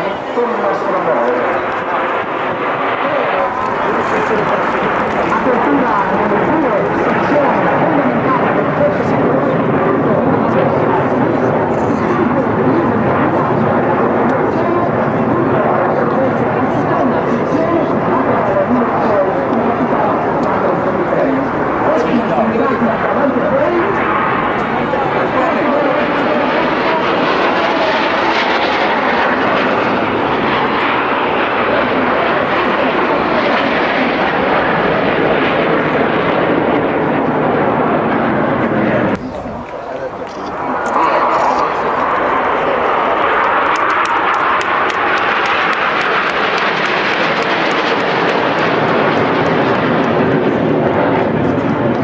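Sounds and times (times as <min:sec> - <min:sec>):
jet aircraft flying past: 0:00.0 - 0:52.0.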